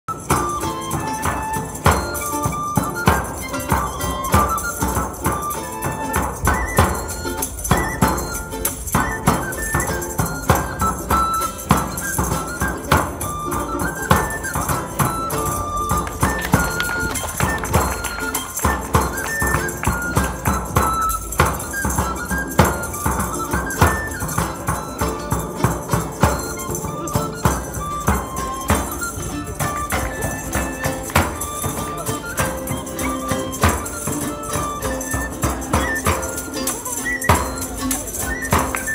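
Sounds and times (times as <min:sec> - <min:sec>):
plucked lute: 0:00.0 - 0:38.9
frame drum beat: 0:00.1 - 0:38.9
high pipe melody: 0:00.1 - 0:38.9
jingling tambourine: 0:00.1 - 0:38.9.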